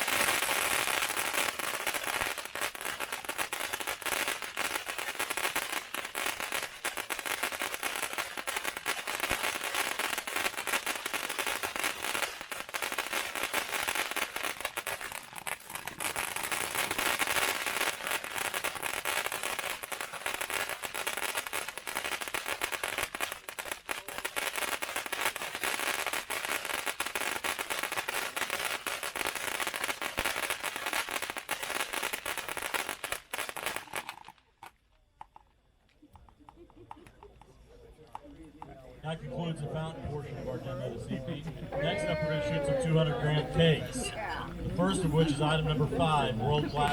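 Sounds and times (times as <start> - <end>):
firework fountain crackling: 0.0 - 46.9.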